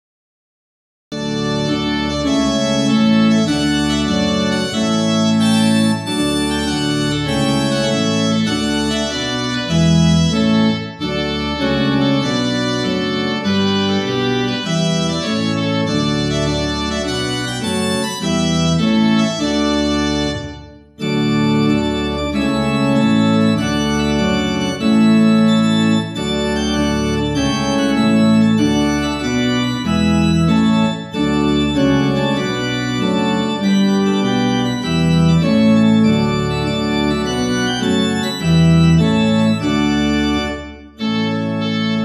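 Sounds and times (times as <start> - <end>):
church organ chords: 1.1 - 42.0.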